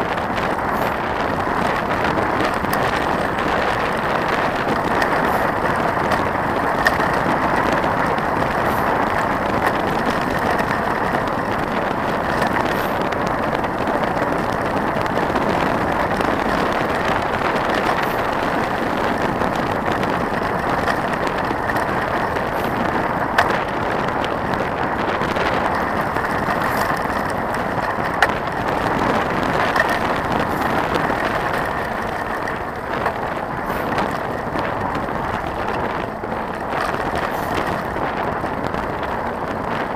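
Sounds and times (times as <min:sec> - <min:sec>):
bike tyres crunching on gravel: 0:00.0 - 0:39.9.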